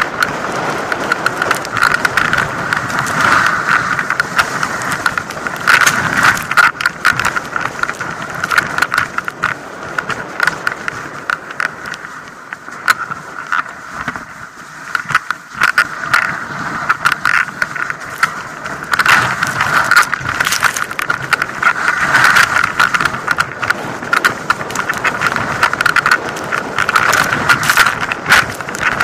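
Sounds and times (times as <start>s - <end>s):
sharp clicks and knocks: 0.0s - 14.3s, 14.9s - 29.0s
skis hissing over snow: 0.1s - 29.0s.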